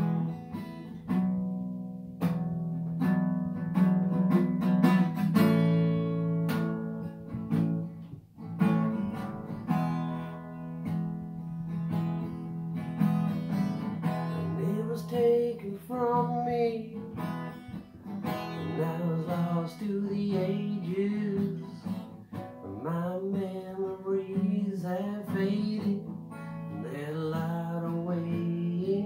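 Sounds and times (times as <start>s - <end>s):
acoustic guitar picking and strumming: 0.0s - 29.0s.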